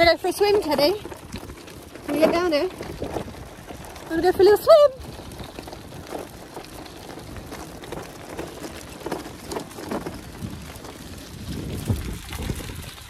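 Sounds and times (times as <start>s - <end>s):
bike tyres clicking and rattling: 0.0s - 13.0s
wind buffeting microphone: 0.0s - 13.0s.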